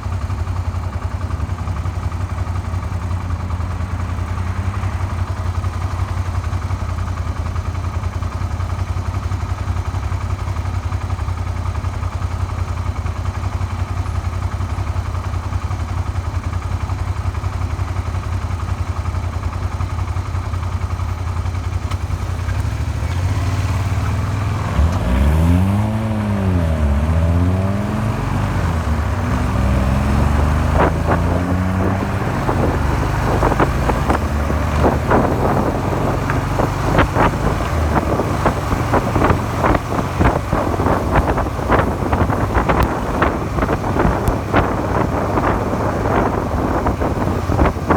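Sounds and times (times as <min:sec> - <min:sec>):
motorcycle engine idling and revving: 0:00.0 - 0:47.9.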